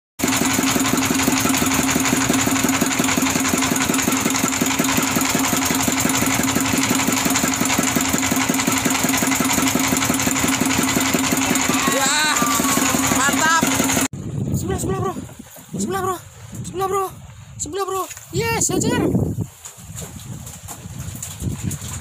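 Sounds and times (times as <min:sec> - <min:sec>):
boat engine humming: 0:00.2 - 0:19.7.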